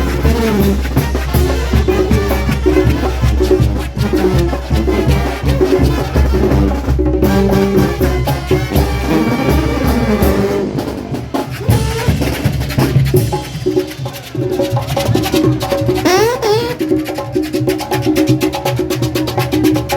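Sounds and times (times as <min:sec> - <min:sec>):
brass band playing merengue: 0:00.0 - 0:17.5
drums and percussion: 0:00.0 - 0:19.9.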